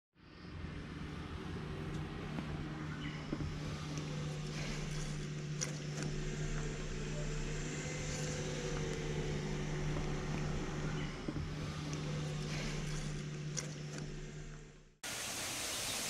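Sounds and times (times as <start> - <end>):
low mechanical hum: 0.2 - 16.0.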